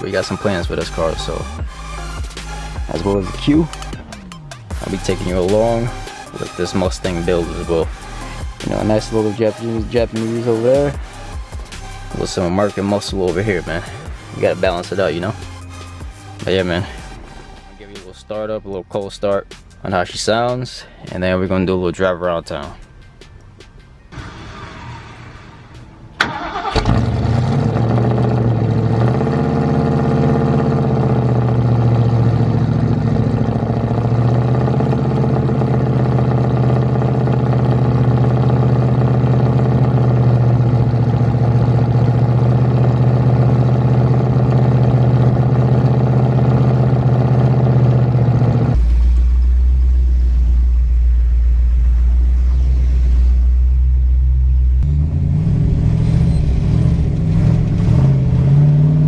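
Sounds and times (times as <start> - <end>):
deep low drone: 0.0 - 17.9, 26.8 - 59.0
car engine starting and idling: 0.0 - 59.0.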